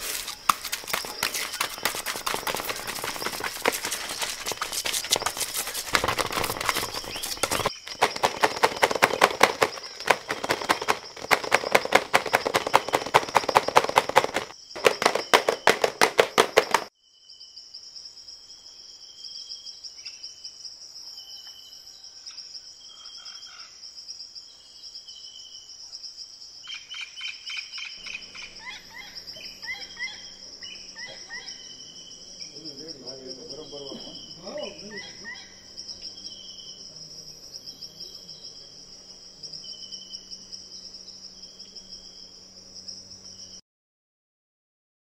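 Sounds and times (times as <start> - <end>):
insects chirping: 0.0 - 43.6.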